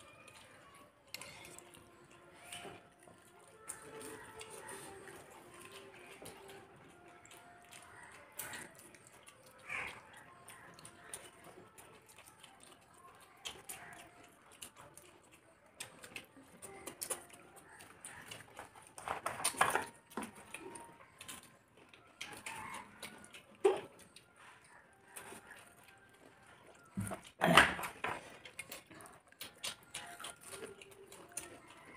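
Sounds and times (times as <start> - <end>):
chewing clicks and smacks: 0.0 - 31.9
person eating by hand: 0.0 - 31.9.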